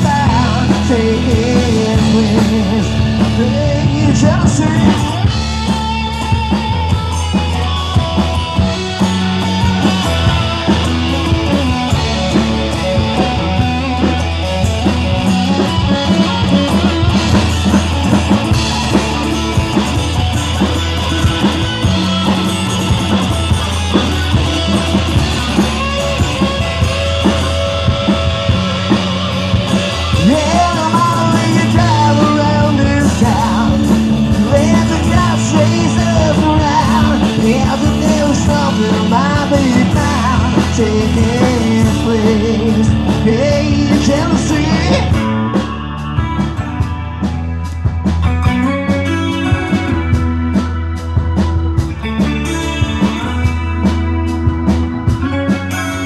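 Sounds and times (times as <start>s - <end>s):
rock music with drums and guitar: 0.0s - 56.0s.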